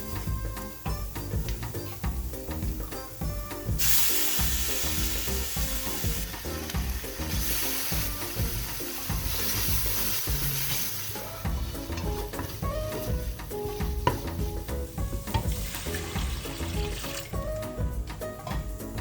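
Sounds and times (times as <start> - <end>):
food sizzling in a hot pan: 0.0 - 17.4
background music: 0.0 - 19.0.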